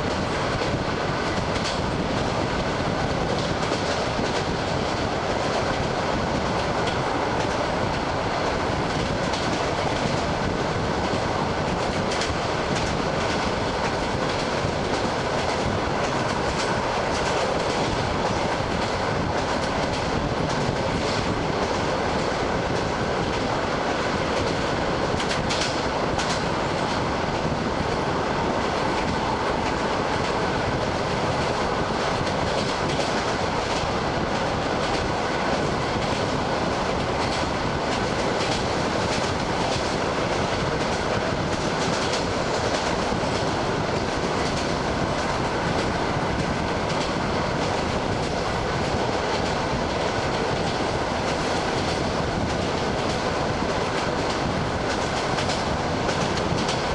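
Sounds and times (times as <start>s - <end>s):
train rolling rumble: 0.0s - 56.9s.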